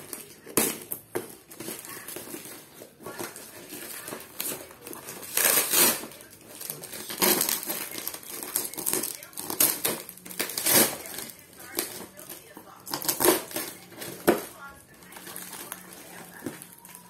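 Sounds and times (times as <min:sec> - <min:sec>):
cardboard box and plastic rustling: 0:00.0 - 0:17.0.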